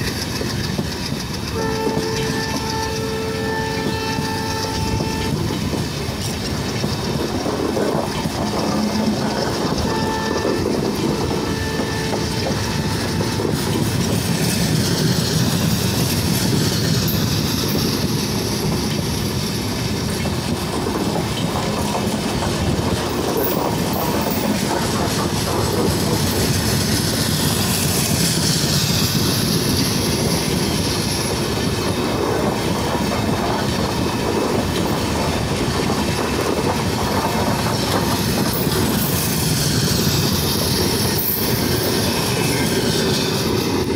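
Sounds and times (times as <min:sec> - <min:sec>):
train wheels clattering over rail joints: 0:00.0 - 0:43.9.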